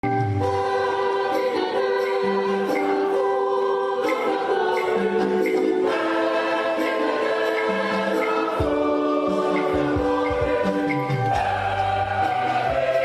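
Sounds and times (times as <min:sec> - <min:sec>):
choir singing held chords: 0:00.3 - 0:13.0.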